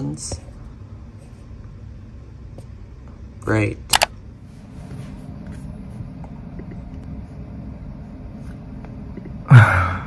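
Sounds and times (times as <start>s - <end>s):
low room rumble: 0.0s - 10.0s.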